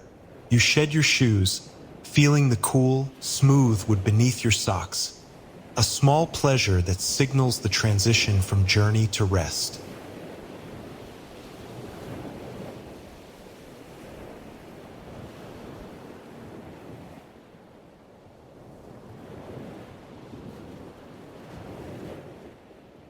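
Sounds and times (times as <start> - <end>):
ocean waves washing ashore: 0.0 - 23.0.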